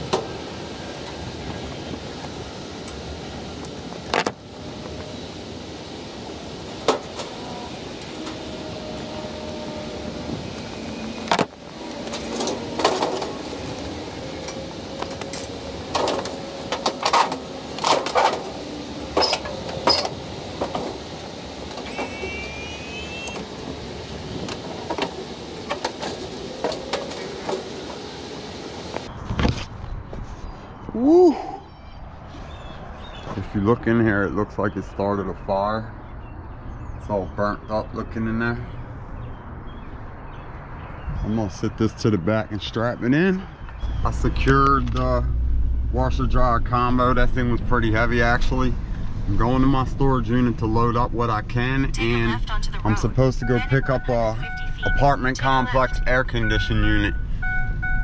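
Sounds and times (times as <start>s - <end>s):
steady background noise: 0.0s - 58.0s.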